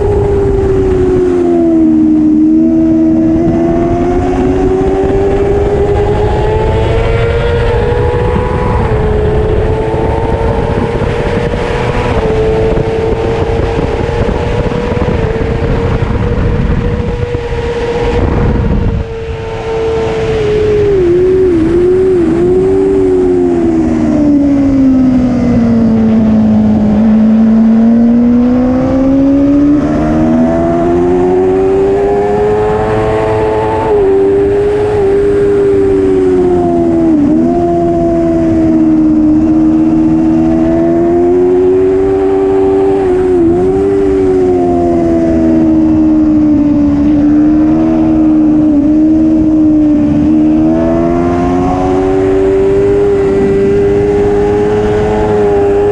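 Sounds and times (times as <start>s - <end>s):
racing motorcycle engine running hard: 0.0s - 55.9s.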